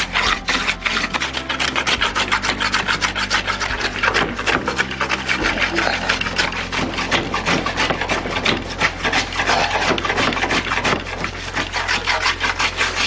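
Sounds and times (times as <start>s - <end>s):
hand plane shaving wood: 0.0s - 13.0s.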